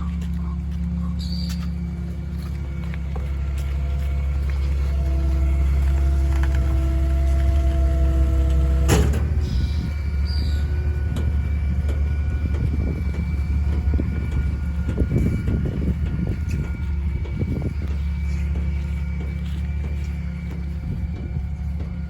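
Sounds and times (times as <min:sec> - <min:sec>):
hydraulics whining: 0:00.0 - 0:22.0.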